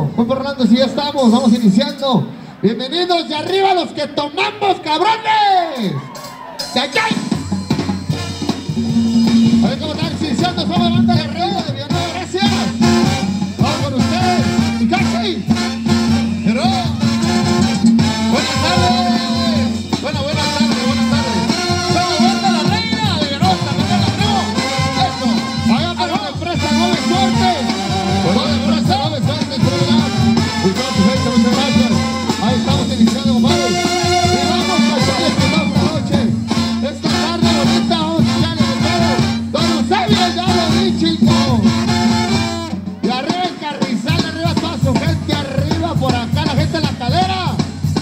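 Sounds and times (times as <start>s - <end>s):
drum beats: 5.7s - 48.0s
brass band playing: 6.0s - 48.0s
trumpets and trombones melody: 6.0s - 48.0s
tuba bass line: 7.1s - 48.0s.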